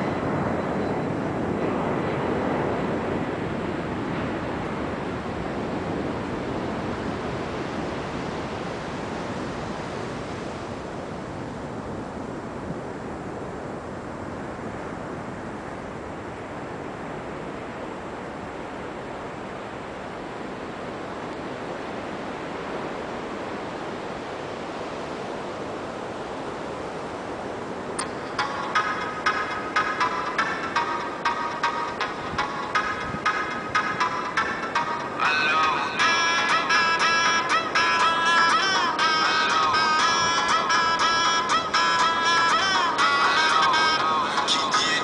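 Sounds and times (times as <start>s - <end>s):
ocean surf on a beach: 0.0s - 45.0s
wind on microphone: 0.0s - 45.0s.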